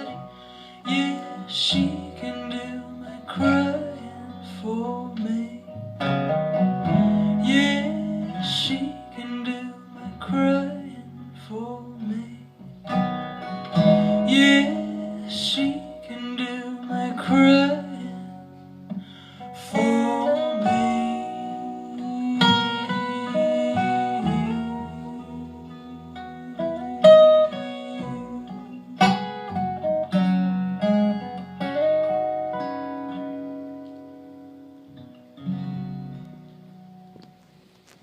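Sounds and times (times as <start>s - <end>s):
acoustic guitar picking: 0.0s - 38.0s
bass notes: 0.0s - 38.0s.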